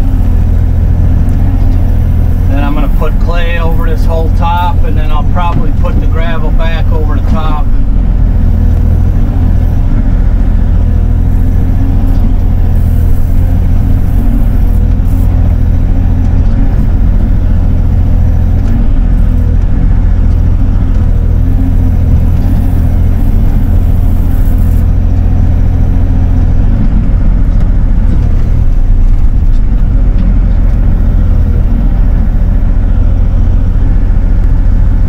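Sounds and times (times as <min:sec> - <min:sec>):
excavator diesel engine rumbling: 0:00.0 - 0:35.0.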